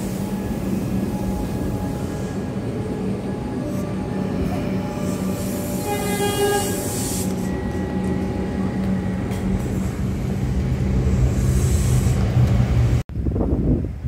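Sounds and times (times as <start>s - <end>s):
train whine: 0.0s - 13.0s
rail rumble: 0.0s - 14.0s
train electric hum: 0.0s - 14.0s.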